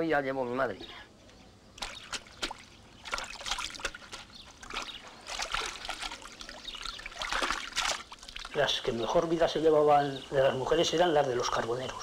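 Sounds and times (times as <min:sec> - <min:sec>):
water splashing and trickling: 0:01.7 - 0:12.0.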